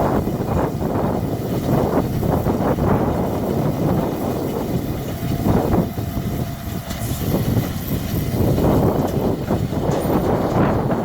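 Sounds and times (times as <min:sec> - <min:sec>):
hay baler working: 0:00.0 - 0:11.0
tractor engine rumbling: 0:00.0 - 0:11.0.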